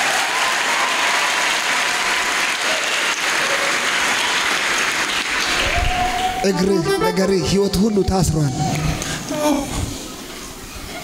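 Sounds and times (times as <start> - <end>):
crowd applauding: 0.0 - 9.3.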